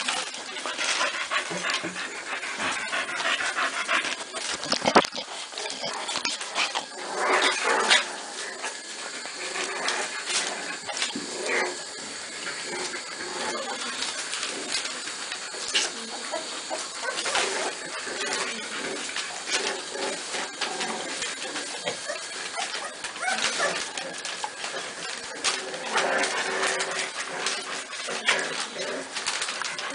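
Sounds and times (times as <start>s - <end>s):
paper crackling and rustling: 0.0s - 29.9s
puppies whimpering: 0.0s - 29.9s.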